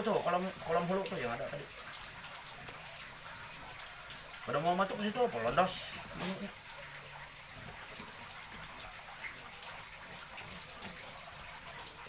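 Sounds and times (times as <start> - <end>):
water running from hose: 0.0 - 12.0.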